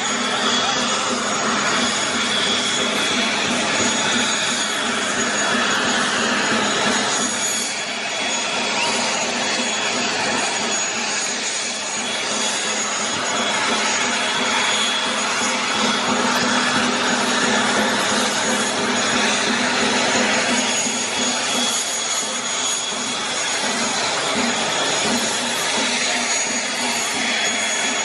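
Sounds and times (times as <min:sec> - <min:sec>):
aircraft turbine engine running: 0:00.0 - 0:28.0.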